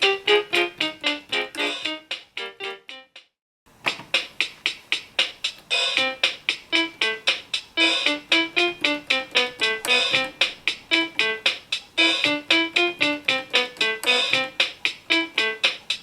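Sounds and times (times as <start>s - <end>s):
toy keyboard playing a pop tune: 0.0s - 3.2s, 5.5s - 16.0s.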